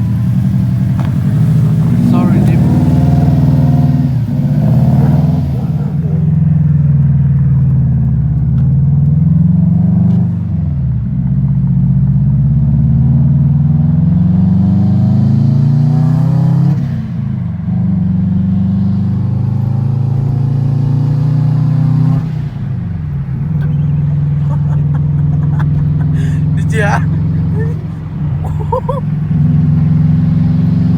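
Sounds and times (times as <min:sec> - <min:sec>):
loud car engine accelerating: 0:00.0 - 0:30.9.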